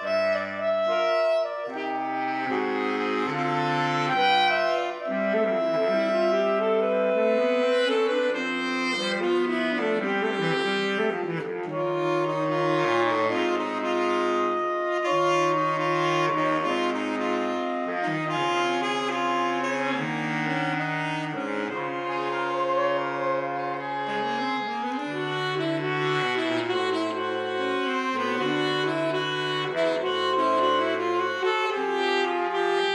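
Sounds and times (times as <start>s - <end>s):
saxophone quartet playing: 0.0s - 32.9s.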